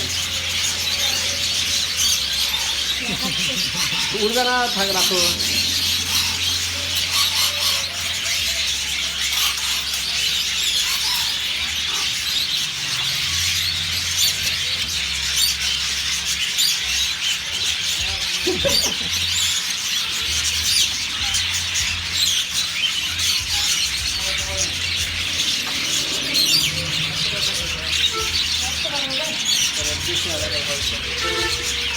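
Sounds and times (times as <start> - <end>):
budgerigars chattering: 0.0 - 31.9.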